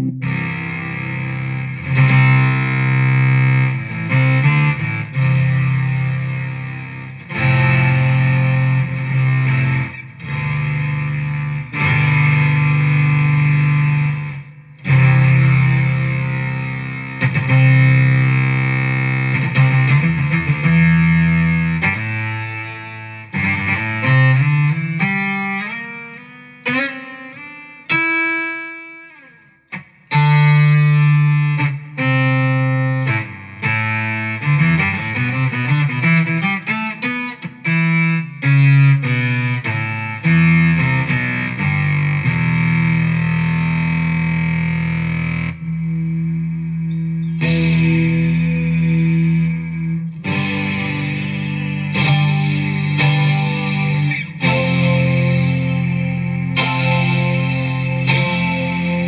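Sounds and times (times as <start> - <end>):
distorted synth guitar tones: 0.0 - 28.5, 30.1 - 59.0.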